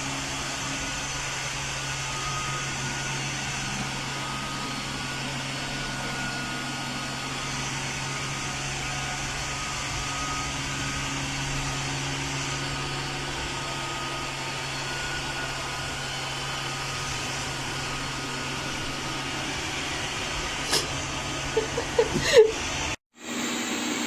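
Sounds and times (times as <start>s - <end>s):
robot vacuum cleaner whirring: 0.0s - 24.0s.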